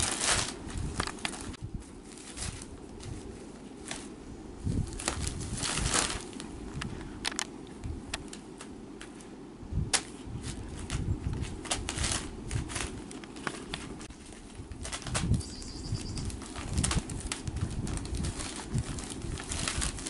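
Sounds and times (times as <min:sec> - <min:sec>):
paper crinkling and rustling: 0:00.0 - 0:07.4, 0:09.9 - 0:20.0.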